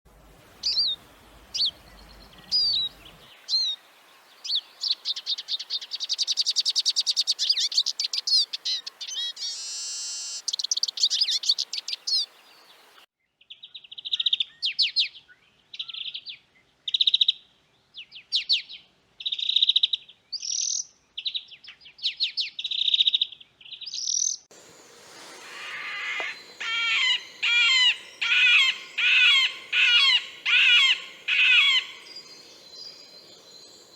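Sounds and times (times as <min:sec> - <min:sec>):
songbirds singing and calling: 0:00.6 - 0:33.9.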